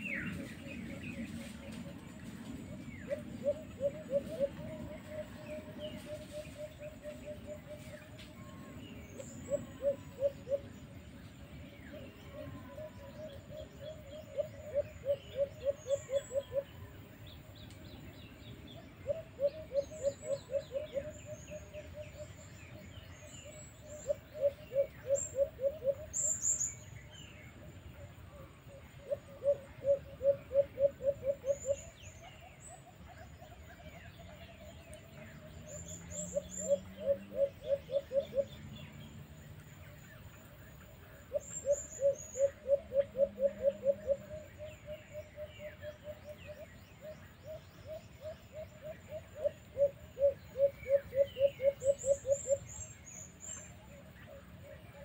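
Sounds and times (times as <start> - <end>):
dove hooting coos: 0.0 - 11.0, 11.9 - 17.0, 18.7 - 22.8, 23.4 - 26.6, 28.0 - 39.0, 41.1 - 55.0.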